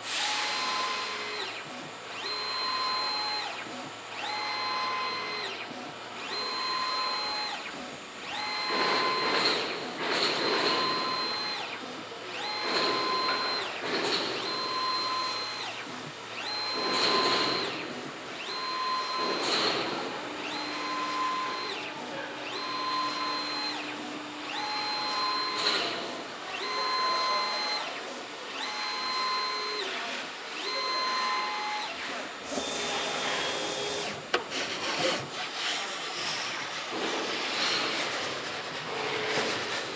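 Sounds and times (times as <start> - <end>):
cutting machine motor whine: 0.0 - 38.2.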